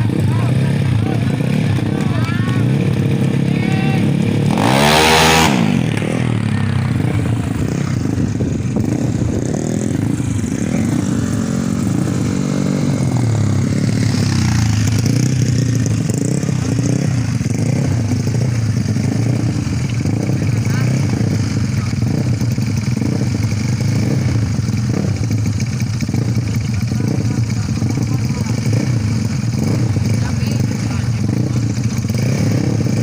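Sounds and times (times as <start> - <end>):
scooter engines revving: 0.0 - 33.0.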